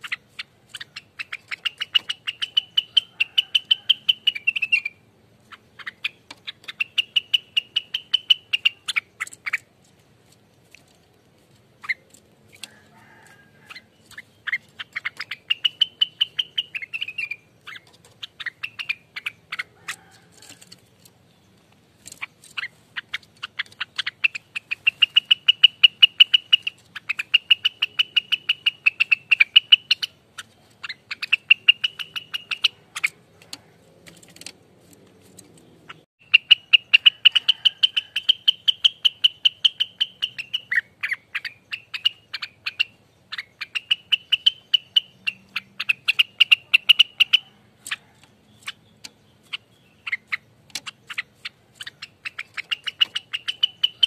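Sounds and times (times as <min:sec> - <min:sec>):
songbird singing rattling trills: 0:00.0 - 0:54.0.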